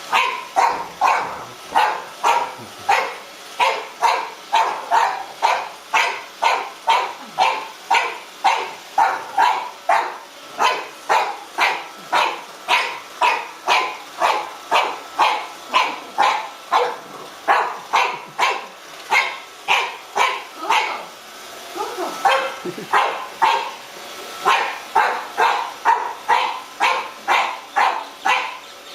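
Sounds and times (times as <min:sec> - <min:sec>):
puppy barking: 0:00.1 - 0:21.1, 0:22.2 - 0:23.8, 0:24.4 - 0:28.7.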